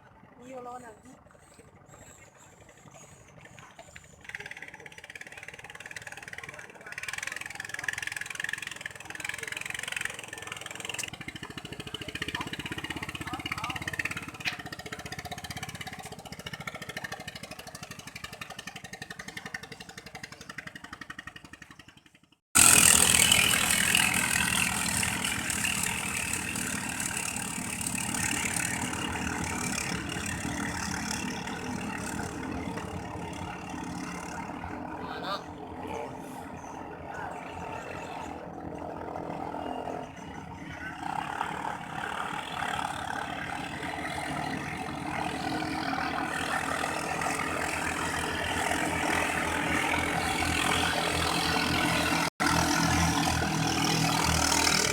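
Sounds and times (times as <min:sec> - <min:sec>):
longtail boat engine running: 0:00.0 - 0:22.0, 0:22.6 - 0:54.9.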